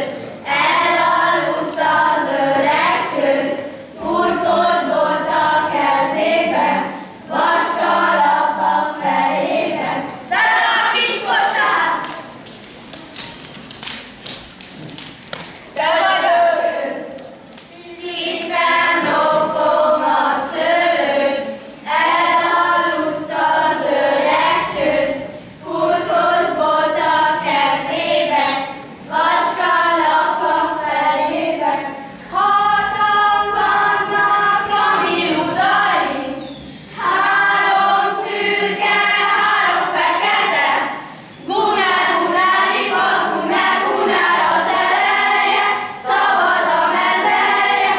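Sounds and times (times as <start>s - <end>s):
children's choir singing: 0.0s - 12.6s, 15.7s - 47.9s.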